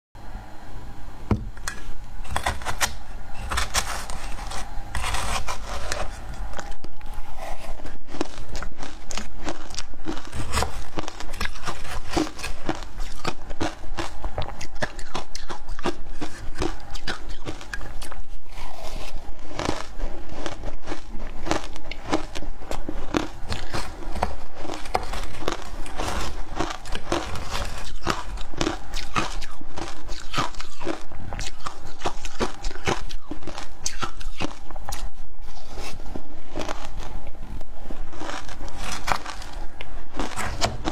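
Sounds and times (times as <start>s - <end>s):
ice being chewed: 2.3s - 40.9s.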